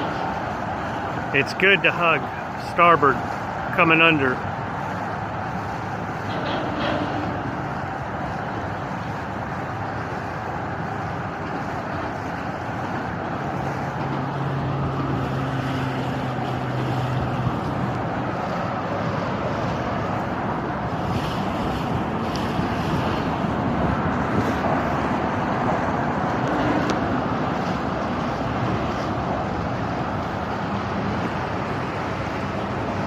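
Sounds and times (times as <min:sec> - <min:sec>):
sailboat rumble: 0:00.0 - 0:33.0.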